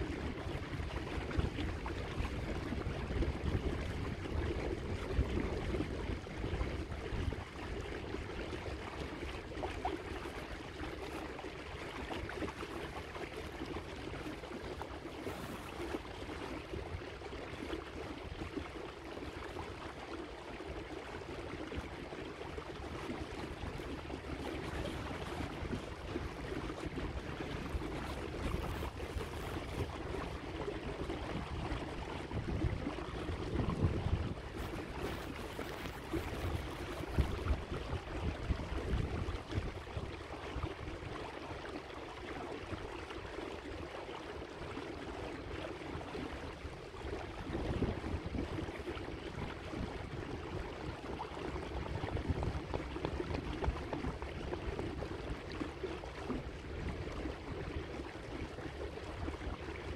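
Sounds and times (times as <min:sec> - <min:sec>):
water splashing along boat hull: 0:00.0 - 0:59.9
wind rumble on microphone: 0:00.0 - 0:59.9.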